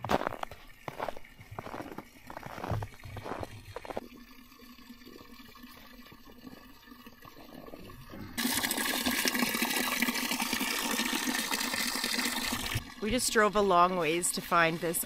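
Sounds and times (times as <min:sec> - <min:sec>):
spring water rushing: 0:00.0 - 0:07.7, 0:08.3 - 0:15.0.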